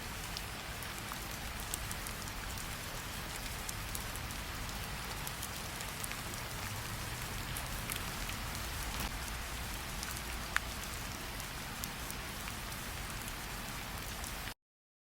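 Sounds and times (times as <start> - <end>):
steady rain falling: 0.0 - 14.6
campfire crackling: 0.1 - 13.4.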